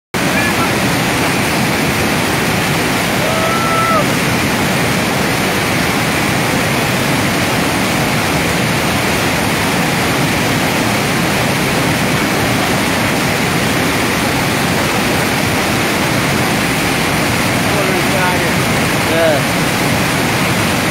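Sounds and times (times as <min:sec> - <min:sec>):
waterfall roaring: 0:00.1 - 0:20.9.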